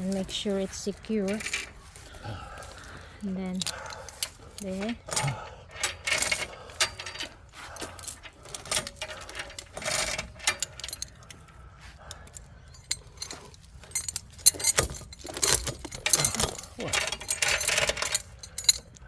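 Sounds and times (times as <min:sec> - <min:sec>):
sharp metal clanks: 0:00.0 - 0:11.6, 0:12.2 - 0:19.0
chain and metal hardware rattling: 0:00.0 - 0:19.0.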